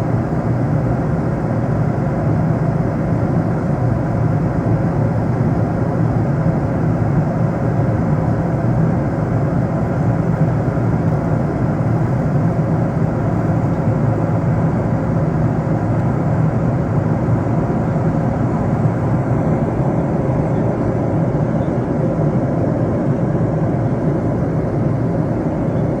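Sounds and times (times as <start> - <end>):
jet airliner cabin noise: 0.0 - 26.0.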